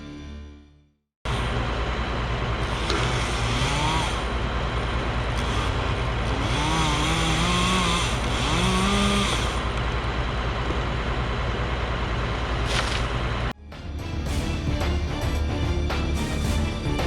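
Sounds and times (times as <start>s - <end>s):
truck diesel engine running: 1.3s - 17.0s.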